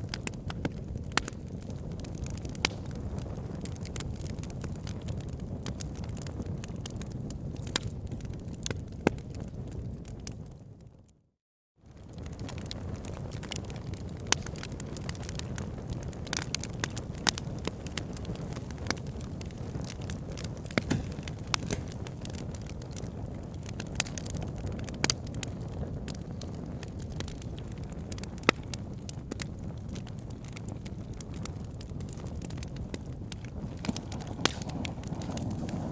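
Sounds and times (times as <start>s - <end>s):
fire burning in fireplace: 0.0s - 11.0s, 11.9s - 35.9s
fire crackling and popping: 0.0s - 11.0s, 11.9s - 35.9s.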